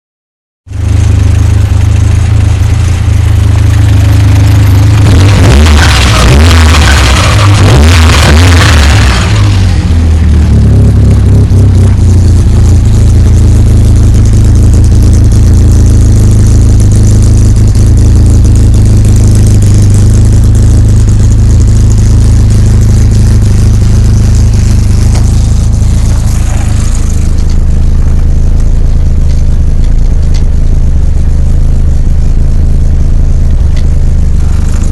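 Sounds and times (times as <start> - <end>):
race car engine running: 0.6 - 34.9.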